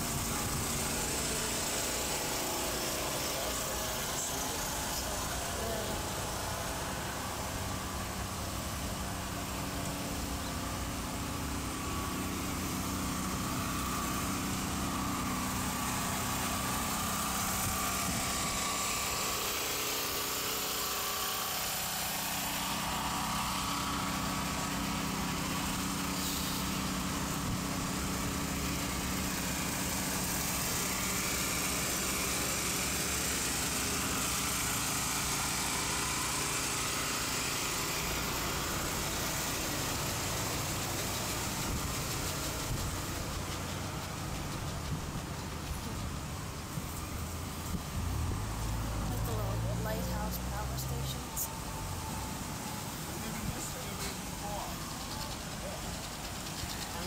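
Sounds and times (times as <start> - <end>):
engine hum: 0.0 - 57.0
traffic hiss: 0.0 - 57.0
wind: 0.0 - 57.0.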